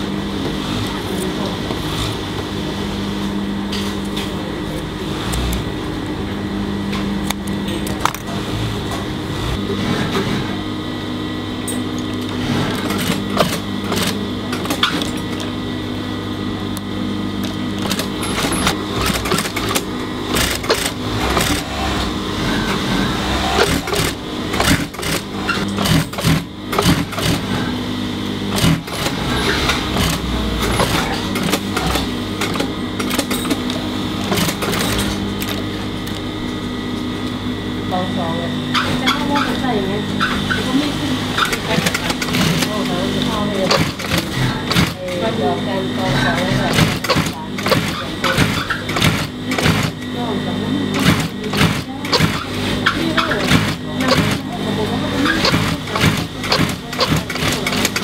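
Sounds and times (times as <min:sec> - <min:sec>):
sewing machine motor hum: 0:00.0 - 0:58.0.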